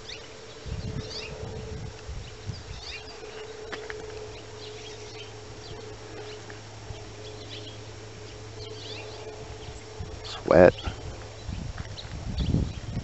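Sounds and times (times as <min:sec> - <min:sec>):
faint bird chirps: 0:00.0 - 0:13.0
steady low hum: 0:00.0 - 0:13.0.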